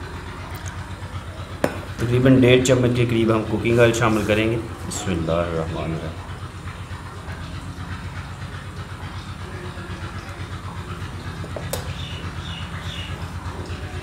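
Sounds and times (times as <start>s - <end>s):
low pulsing machine drone: 0.0s - 14.0s.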